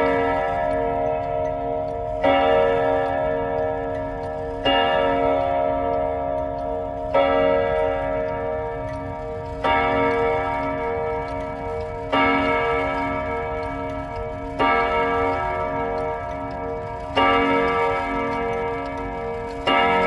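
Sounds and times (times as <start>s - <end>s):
chime clock striking: 0.0s - 20.0s.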